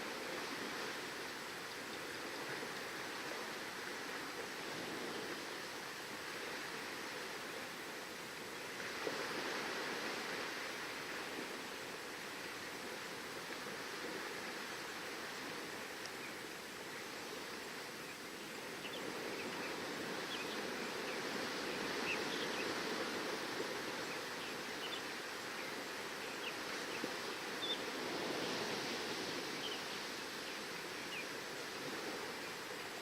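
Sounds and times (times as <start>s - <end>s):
surf washing: 0.0s - 33.0s.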